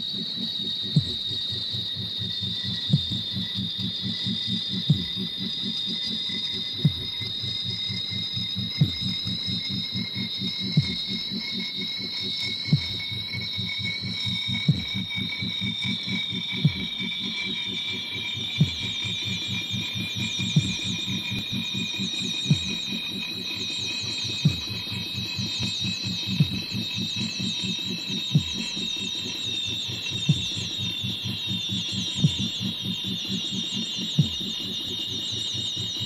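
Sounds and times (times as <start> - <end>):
fast low throbbing pulse: 0.0 - 36.0
high electronic whining tones: 0.0 - 36.0.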